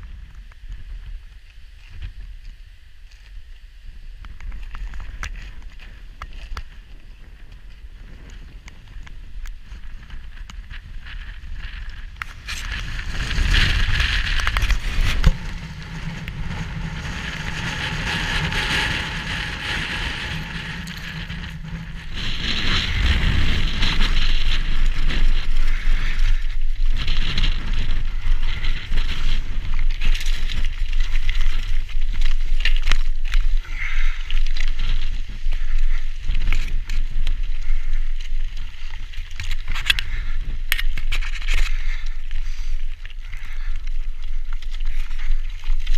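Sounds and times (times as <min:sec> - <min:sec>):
bike tyres crunching over stone: 0:04.2 - 0:45.9
bike rattling and clattering: 0:04.4 - 0:45.9.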